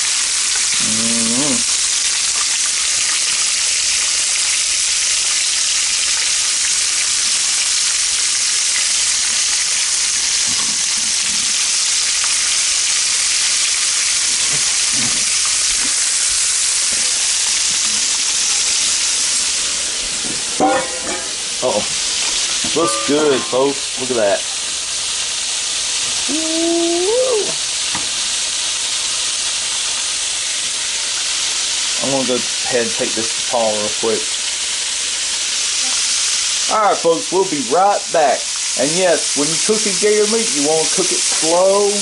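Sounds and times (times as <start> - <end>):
meat sizzling in hot grease: 0.0 - 42.0.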